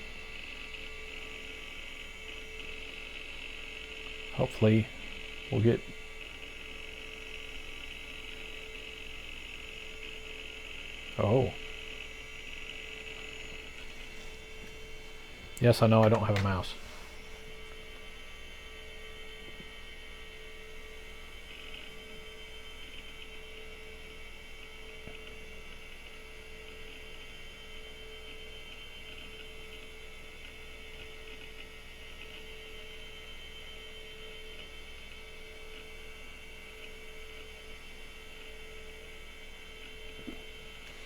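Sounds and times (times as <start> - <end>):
computer electrical hum: 0.0 - 41.0
faint high whine: 0.0 - 41.0.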